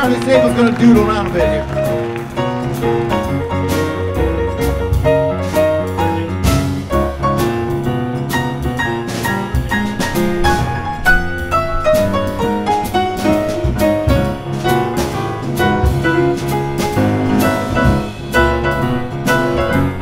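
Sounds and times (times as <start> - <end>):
drums keeping time: 0.0 - 20.0
jazz piano: 0.0 - 20.0
walking upright bass: 0.0 - 20.0.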